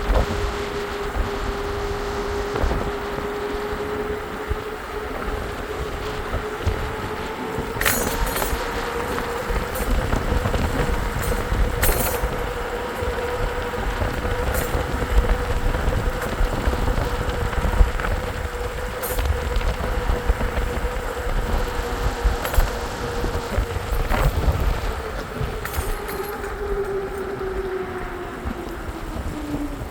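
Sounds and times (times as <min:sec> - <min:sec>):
mid-pitched whine: 0:00.0 - 0:29.9
road noise: 0:00.0 - 0:29.9
wind rumble on microphone: 0:00.0 - 0:29.9.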